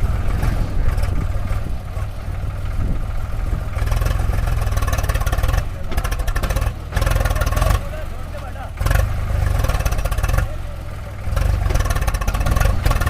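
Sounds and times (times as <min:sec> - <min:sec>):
heavy diesel engine revving: 0:00.0 - 0:13.0.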